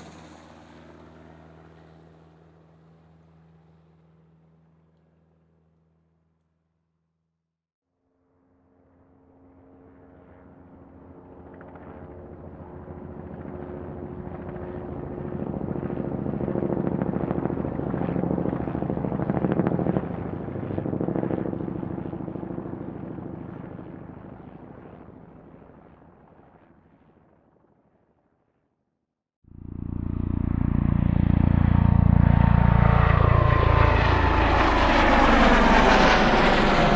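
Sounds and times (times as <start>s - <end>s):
helicopter flying past: 0.0s - 6.2s, 8.0s - 28.6s, 29.5s - 36.9s.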